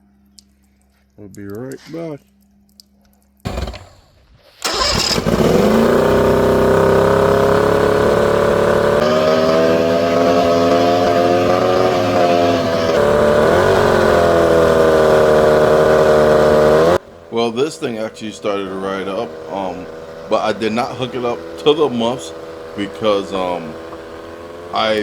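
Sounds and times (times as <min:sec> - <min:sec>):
outboard motor starting and running: 0:03.5 - 0:25.0.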